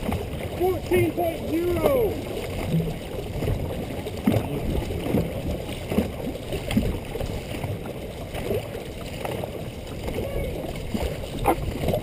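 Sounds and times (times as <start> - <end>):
paddles splashing in water: 0.0 - 12.0
water rushing along hull: 0.0 - 12.0.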